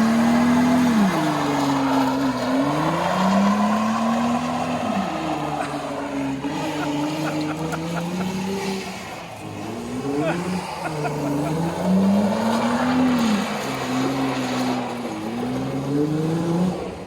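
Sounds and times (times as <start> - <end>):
pickup engine revving: 0.0 - 17.0.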